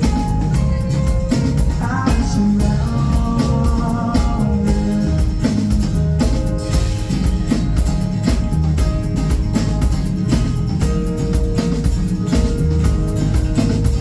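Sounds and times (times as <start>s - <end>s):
drum kit steady beat: 0.0s - 14.0s
guitar: 0.0s - 14.0s.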